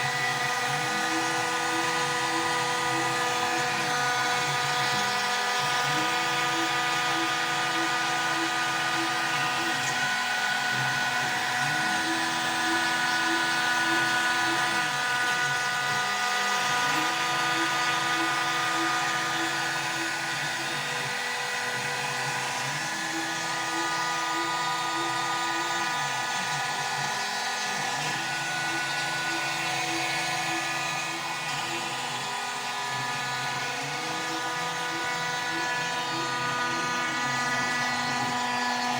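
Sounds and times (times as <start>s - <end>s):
spindle high whine: 0.0s - 38.9s
stepper motors humming: 0.0s - 38.9s.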